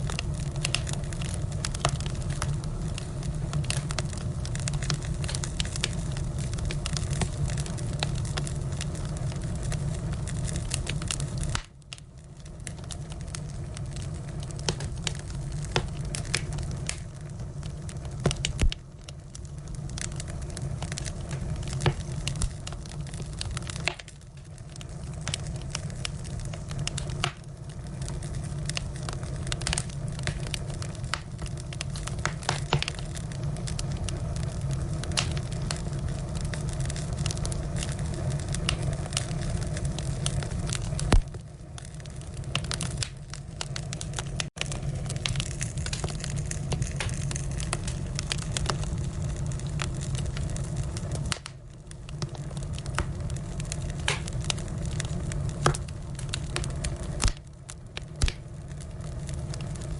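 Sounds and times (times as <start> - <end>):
firewood crackling and popping: 0.0 - 59.9
low fire rumble: 0.0 - 59.9.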